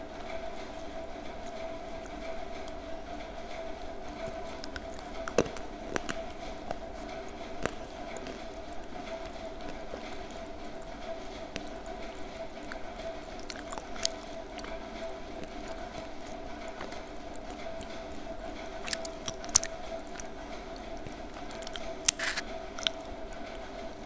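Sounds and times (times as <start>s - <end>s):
crunching and chewing: 0.0s - 24.0s
steady low hum: 0.0s - 24.0s.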